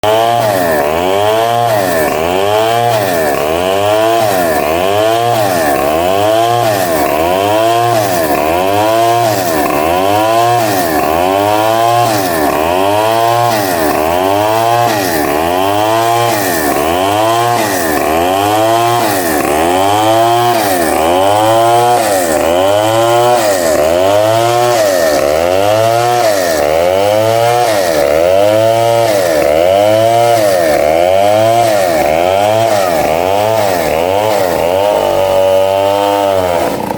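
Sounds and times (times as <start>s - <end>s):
bandsaw cutting timber: 0.0s - 36.9s.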